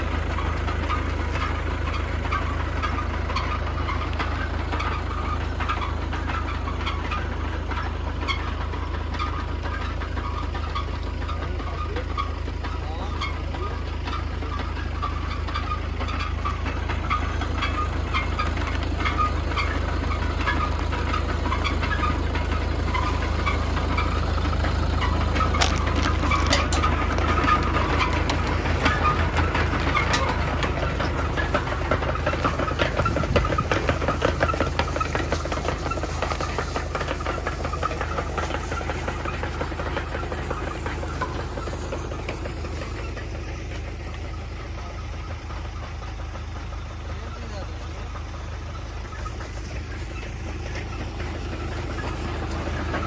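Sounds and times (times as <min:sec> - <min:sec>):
machine clicking and rattling: 0:00.0 - 0:45.7
tractor engine running: 0:00.0 - 0:53.0.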